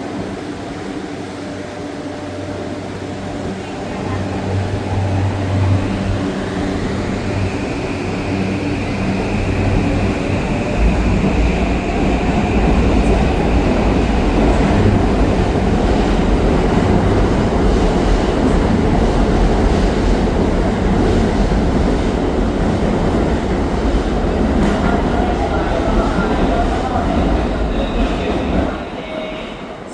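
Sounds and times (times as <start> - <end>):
train wheels rumbling: 0.0 - 29.9.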